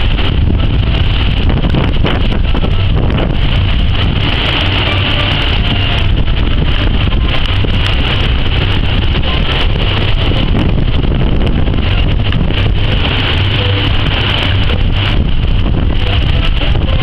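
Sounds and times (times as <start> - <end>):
hurricane wind rumble: 0.0 - 17.0
pool water churning: 0.0 - 17.0.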